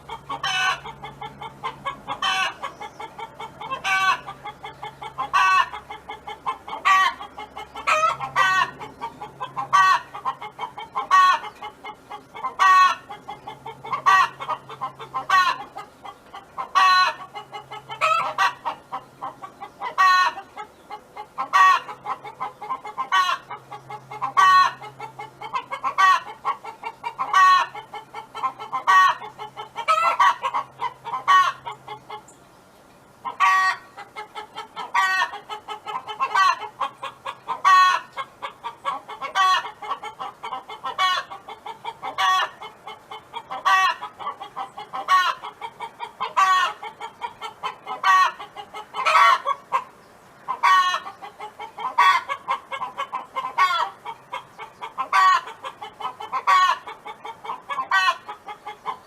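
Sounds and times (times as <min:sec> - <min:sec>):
hen calling loudly: 0:00.0 - 0:32.3, 0:33.2 - 0:49.9, 0:50.5 - 0:59.0
hen clucking: 0:00.0 - 0:32.4, 0:33.2 - 0:59.0.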